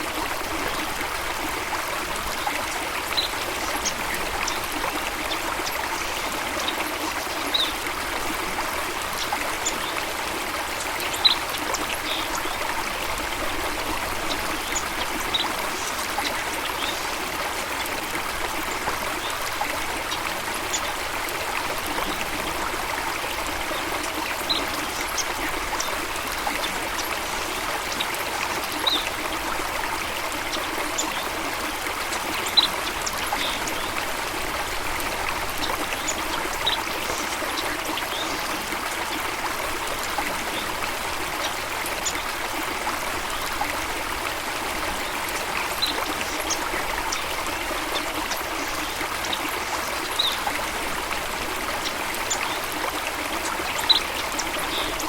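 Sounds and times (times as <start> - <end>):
water flowing and splashing: 0.0 - 55.0.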